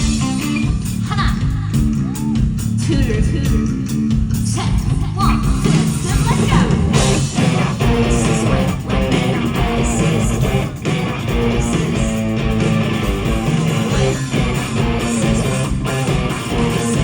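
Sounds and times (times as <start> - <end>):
rock band playing instrumental: 0.0 - 17.0.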